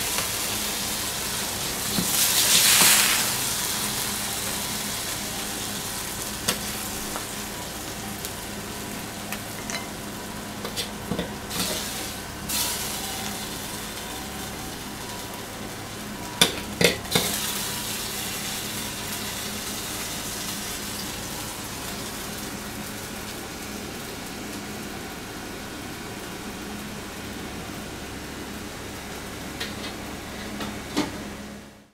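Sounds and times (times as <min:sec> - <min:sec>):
food sizzling in a wok: 0:00.0 - 0:31.6.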